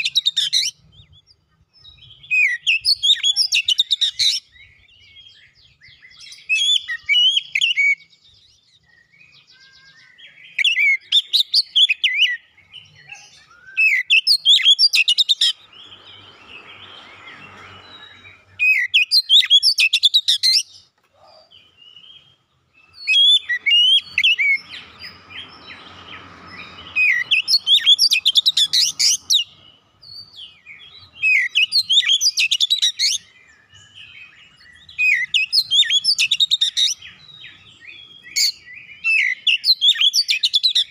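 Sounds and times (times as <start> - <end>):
bird singing whistled phrases: 1.8 - 15.6, 16.2 - 25.2, 26.6 - 40.9.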